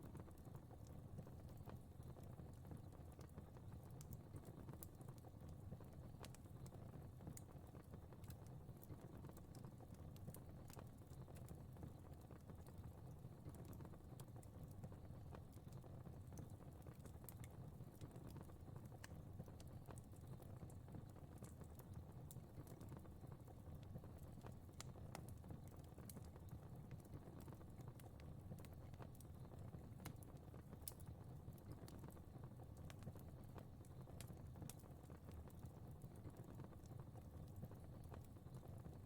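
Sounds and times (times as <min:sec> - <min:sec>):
fire crackling: 0:00.0 - 0:39.0.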